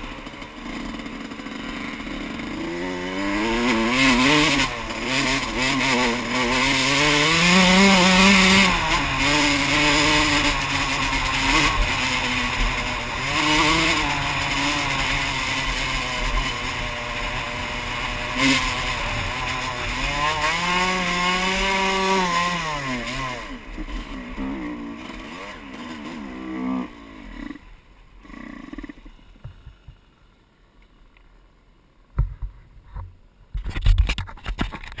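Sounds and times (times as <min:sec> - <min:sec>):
dirt bike engine revving: 0:00.0 - 0:29.8.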